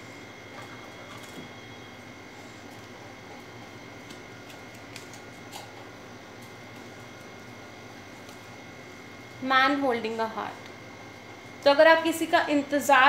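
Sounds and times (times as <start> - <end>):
thin electronic whine: 0.0 - 13.0.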